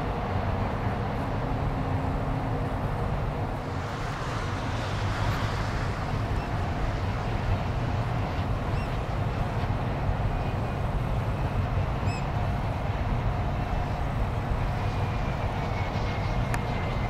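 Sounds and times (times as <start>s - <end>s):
harbour ambience rumble: 0.0s - 17.0s.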